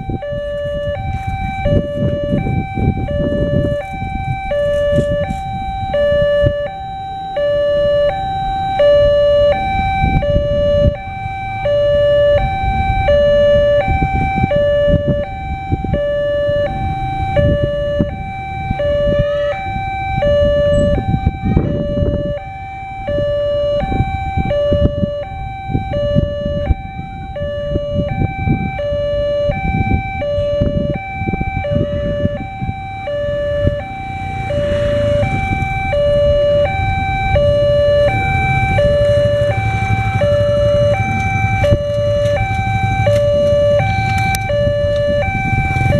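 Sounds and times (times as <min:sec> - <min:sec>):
two-tone level crossing alarm: 0:00.0 - 0:45.9.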